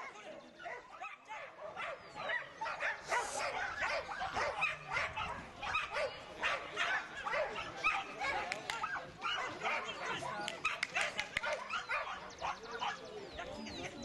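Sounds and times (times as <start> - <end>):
dogs barking and yipping: 0.0 - 13.4.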